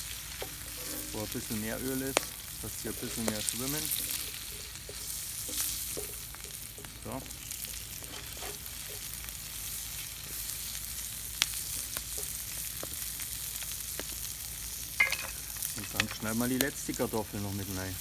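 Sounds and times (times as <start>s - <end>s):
oil sizzling in a pan: 0.0s - 18.0s.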